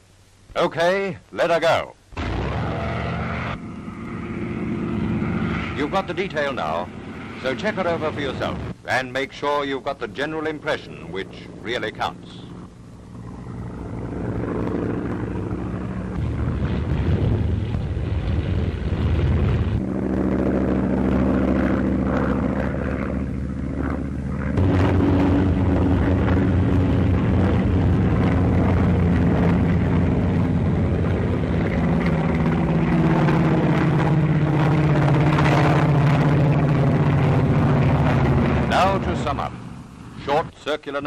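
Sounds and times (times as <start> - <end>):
propeller aircraft engine droning: 2.0 - 41.0.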